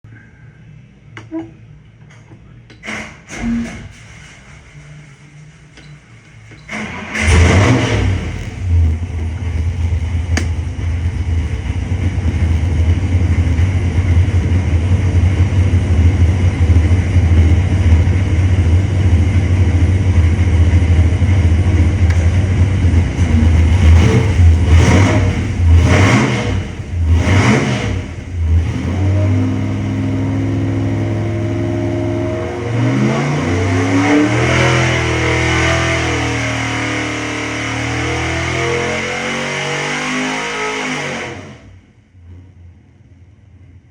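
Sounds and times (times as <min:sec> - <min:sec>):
engine rumbling and revving: 0:06.6 - 0:42.9.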